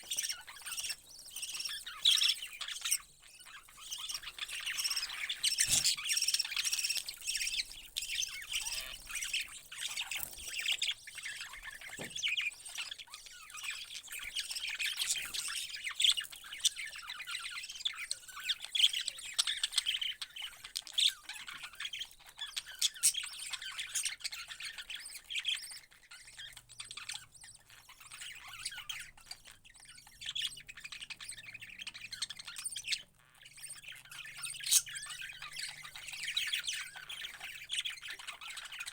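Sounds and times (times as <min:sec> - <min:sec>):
parrots chirping and squawking: 0:00.0 - 0:38.9.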